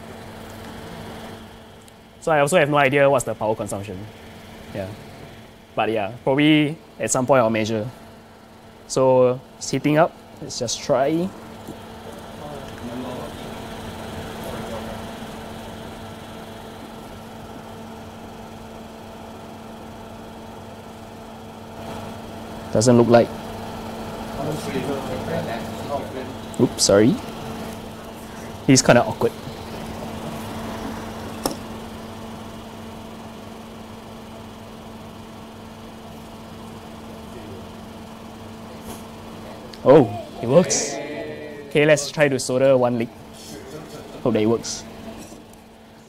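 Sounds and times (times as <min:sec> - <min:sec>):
constant low hum: 0:00.0 - 0:46.0.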